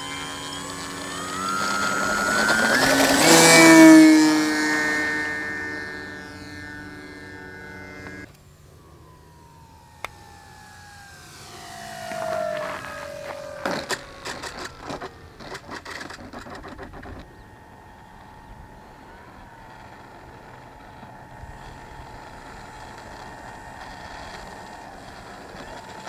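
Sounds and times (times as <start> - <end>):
model plane engine passing: 0.0 - 26.0.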